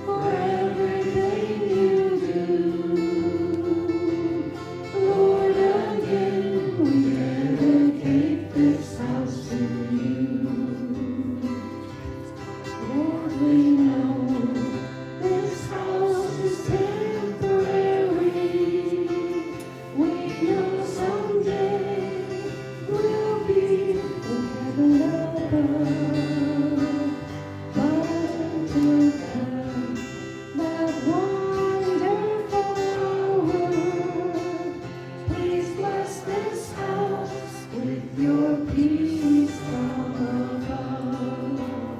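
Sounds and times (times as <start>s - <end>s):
acoustic guitar: 0.0s - 41.9s
person singing worship song: 0.0s - 41.9s.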